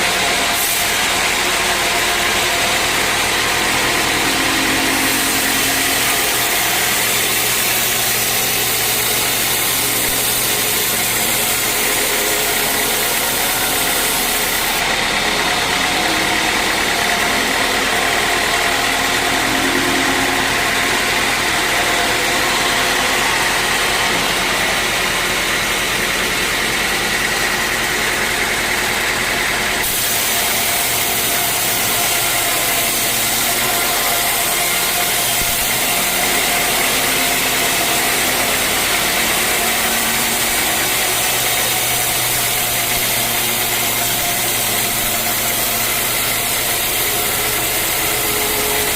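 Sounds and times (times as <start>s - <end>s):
sawmill machinery droning: 0.0s - 48.9s.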